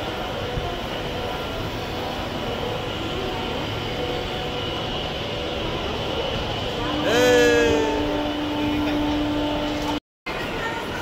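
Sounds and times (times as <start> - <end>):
railway station rumble and hum: 0.0 - 11.0.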